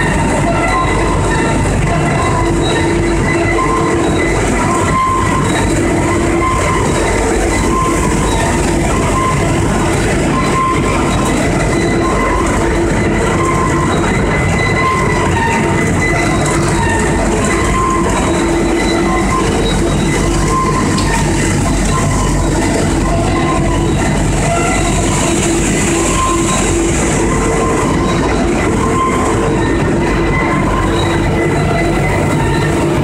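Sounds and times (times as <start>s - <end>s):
pellet mills mechanical din: 0.0s - 33.0s
whining machine tones: 0.0s - 33.0s.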